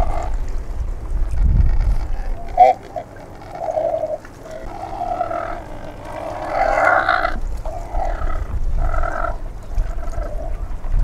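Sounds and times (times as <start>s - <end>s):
cormorant low calls: 0.0s - 0.4s, 1.5s - 10.8s.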